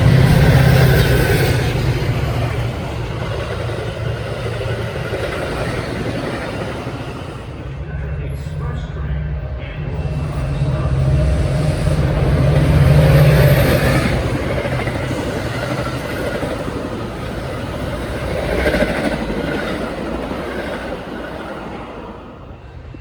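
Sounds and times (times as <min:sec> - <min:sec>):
locomotive engine: 0:00.0 - 0:23.0
train cars rolling and rattling: 0:00.0 - 0:23.0.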